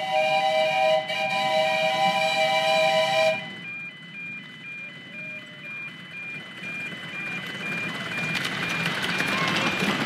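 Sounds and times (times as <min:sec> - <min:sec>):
miniature steam train rumble: 0:00.0 - 0:03.7, 0:04.9 - 0:10.0
two-tone electronic warning sounder: 0:00.0 - 0:10.0.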